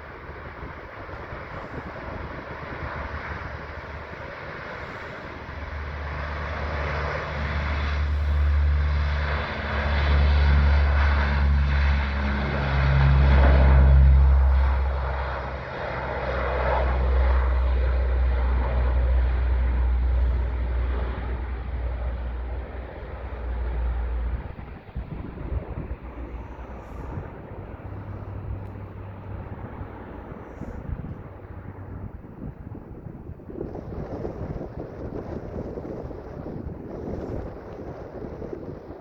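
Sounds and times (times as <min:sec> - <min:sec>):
propeller aircraft engines: 0:00.0 - 0:39.0
wind buffeting microphone: 0:00.0 - 0:39.0.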